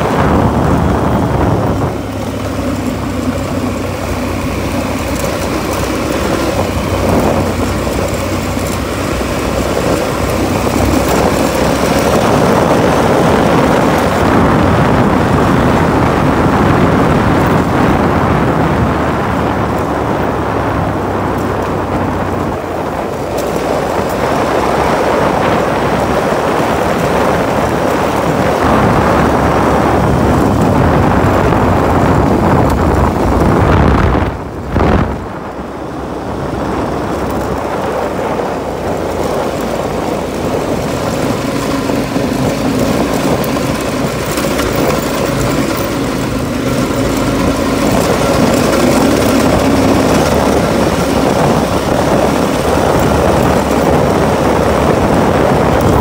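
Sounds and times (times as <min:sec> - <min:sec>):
motorcycle engine cruising: 0:00.0 - 0:56.0
wind rumble on microphone: 0:00.0 - 0:56.0.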